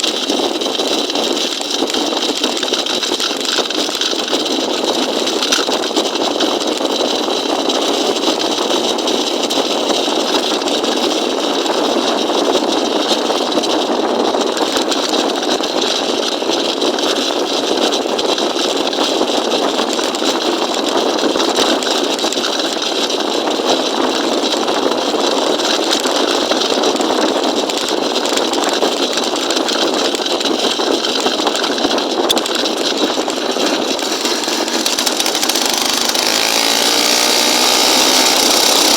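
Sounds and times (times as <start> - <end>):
small engine running steadily: 0.0 - 38.9.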